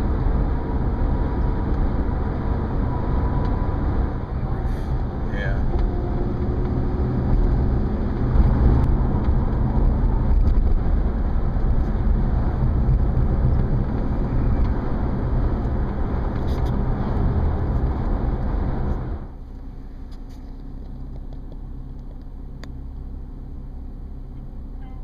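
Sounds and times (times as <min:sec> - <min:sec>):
car cabin road and engine rumble: 0:00.0 - 0:25.0.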